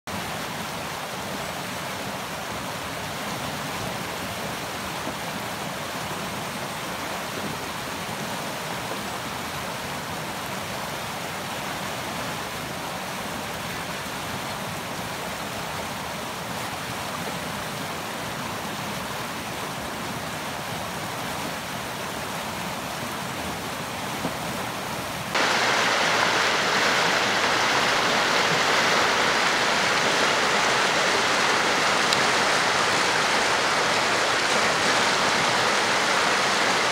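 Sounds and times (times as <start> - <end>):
flood water rushing: 0.1 - 36.9.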